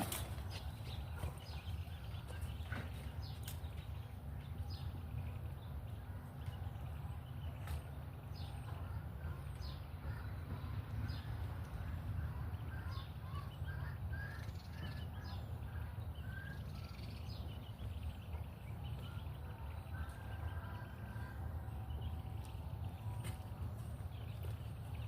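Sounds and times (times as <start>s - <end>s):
birds chirping: 0.0s - 25.0s
steady low rumble: 0.2s - 25.0s.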